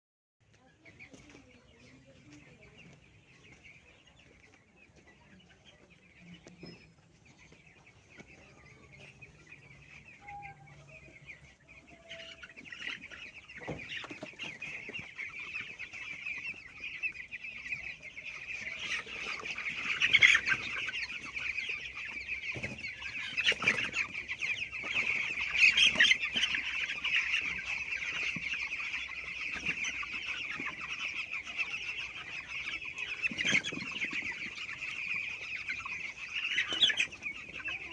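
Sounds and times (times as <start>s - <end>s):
chickens clucking: 0.4s - 37.9s.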